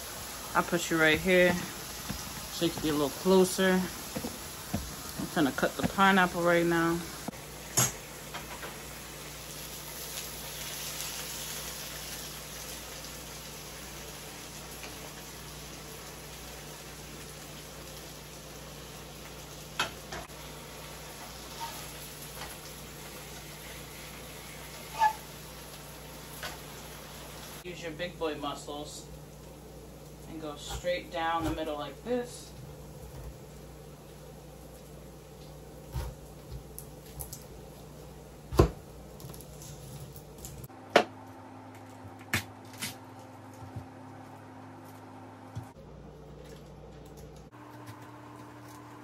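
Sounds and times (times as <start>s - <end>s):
vegetables sizzling in a frying pan: 0.0s - 40.7s.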